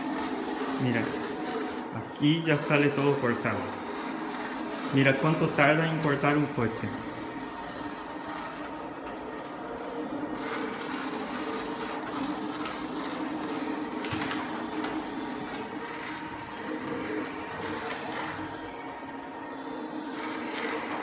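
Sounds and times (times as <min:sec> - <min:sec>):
vinyl cutter motors whirring: 0:00.0 - 0:21.0.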